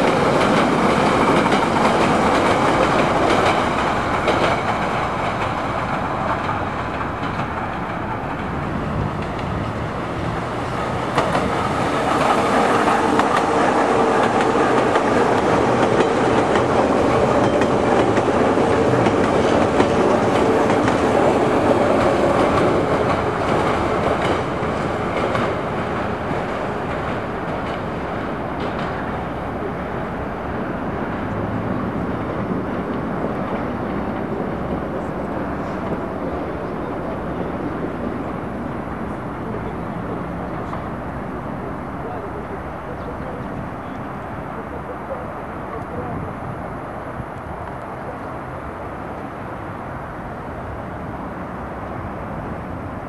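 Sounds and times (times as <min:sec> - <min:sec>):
metro train wheels on rails: 0:00.0 - 0:53.0.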